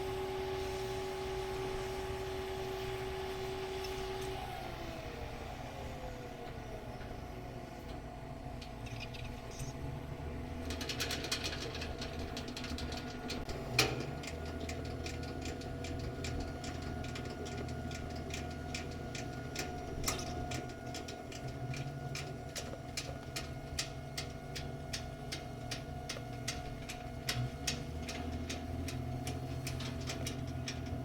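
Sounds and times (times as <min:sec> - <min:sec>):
diesel machinery droning: 0:00.0 - 0:31.0.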